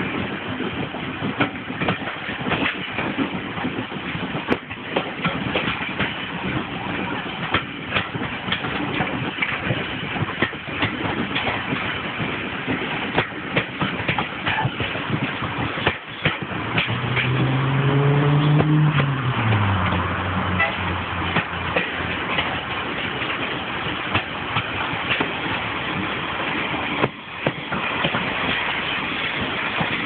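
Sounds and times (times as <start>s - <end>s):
clicks and knocks of train: 0.0s - 30.0s
train rumbling: 0.0s - 30.0s.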